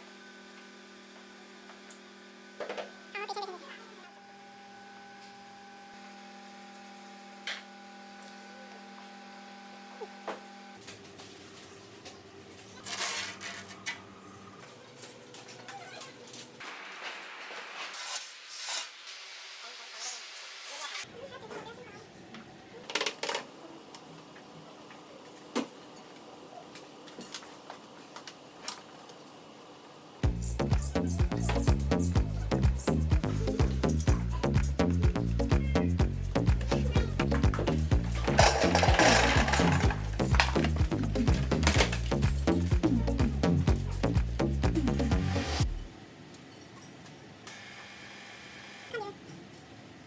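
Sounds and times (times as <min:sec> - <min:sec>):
electrical hum: 0:00.0 - 0:16.6, 0:22.1 - 0:46.1.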